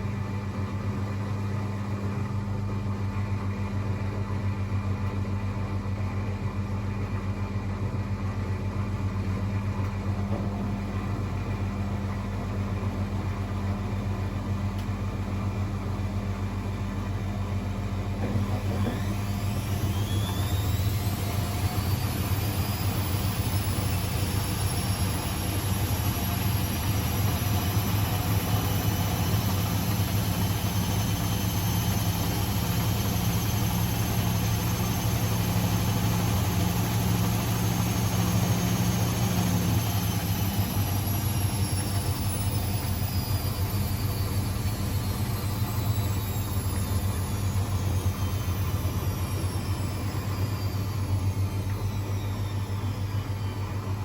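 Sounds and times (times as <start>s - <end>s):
washing machine motor whine: 0.0s - 54.0s.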